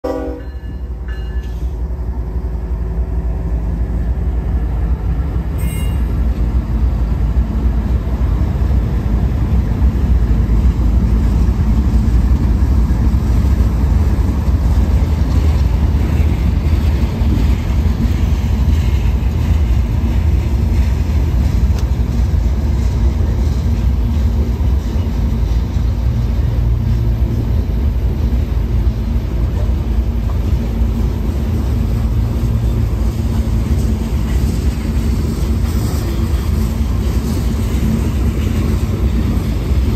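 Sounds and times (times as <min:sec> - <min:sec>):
diesel locomotives passing: 0:00.0 - 0:39.9.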